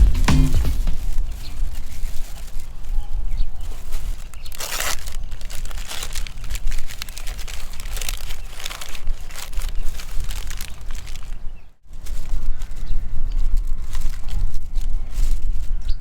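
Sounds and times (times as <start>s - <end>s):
crinkling and clicking handling: 0.0s - 15.8s
rustle: 0.3s - 16.0s.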